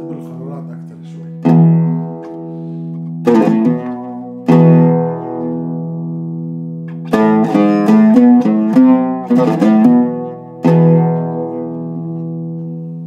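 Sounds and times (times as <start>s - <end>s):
oud notes plucked: 0.0s - 13.0s.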